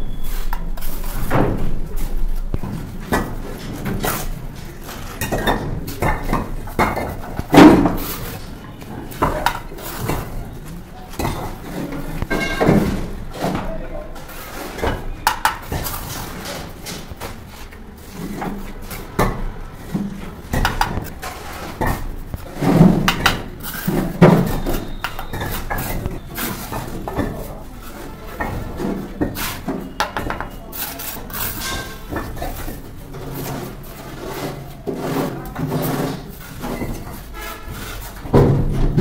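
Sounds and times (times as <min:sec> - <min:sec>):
trowel scraping and tapping mortar: 0:02.0 - 0:13.6, 0:14.2 - 0:38.5.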